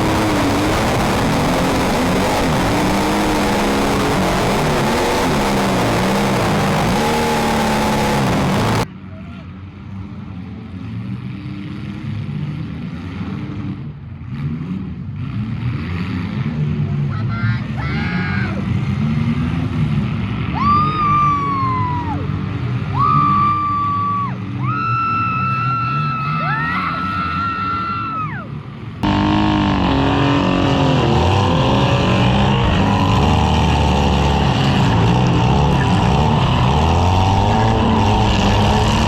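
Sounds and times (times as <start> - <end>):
car engines revving: 0.0 - 8.9, 9.5 - 39.0.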